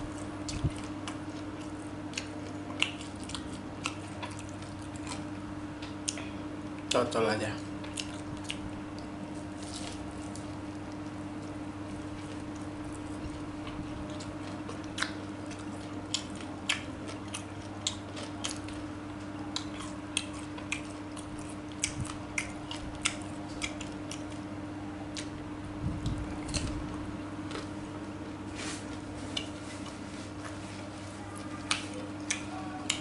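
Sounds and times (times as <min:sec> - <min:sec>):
chewing food: 0:00.0 - 0:27.9, 0:28.6 - 0:33.0
steady low hum: 0:00.0 - 0:33.0.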